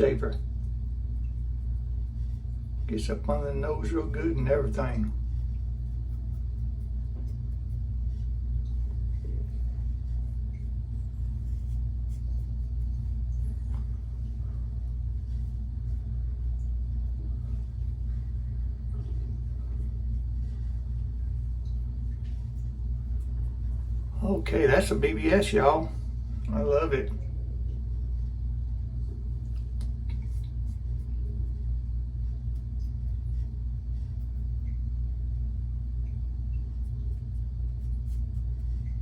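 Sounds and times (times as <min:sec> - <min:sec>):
low room hum: 0:00.0 - 0:39.0.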